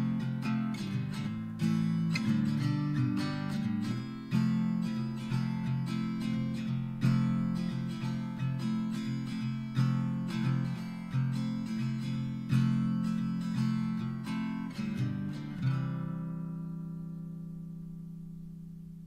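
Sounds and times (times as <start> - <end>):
strummed acoustic guitar music: 0.0 - 19.0.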